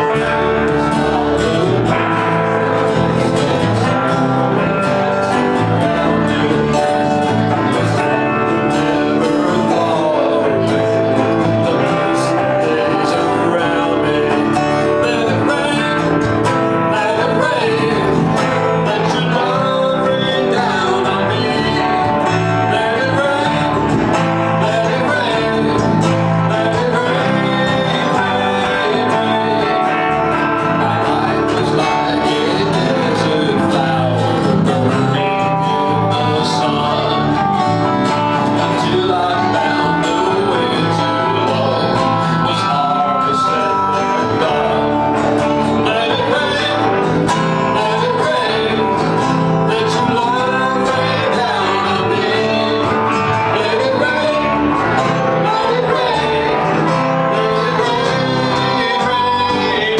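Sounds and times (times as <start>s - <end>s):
country-folk band playing: 0.0s - 59.9s
person singing: 0.0s - 59.9s
strummed acoustic guitars: 0.0s - 59.9s.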